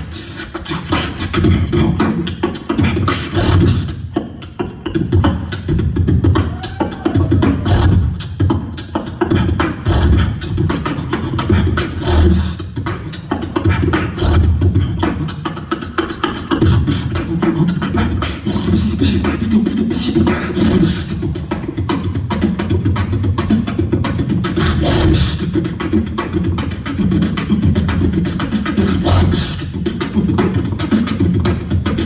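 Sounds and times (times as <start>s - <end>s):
person beatboxing: 0.0s - 32.0s.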